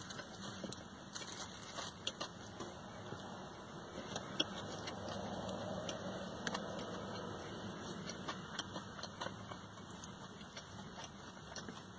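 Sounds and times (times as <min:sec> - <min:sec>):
person chewing sandwich: 0:00.0 - 0:11.9.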